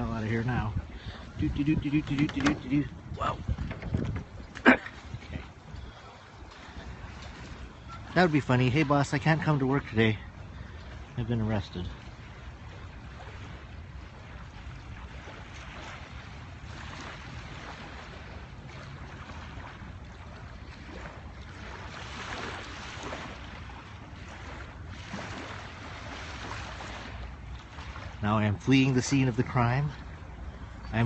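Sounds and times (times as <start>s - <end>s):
ocean waves washing on beach: 0.0s - 31.0s
wind rumbling on microphone: 0.0s - 31.0s.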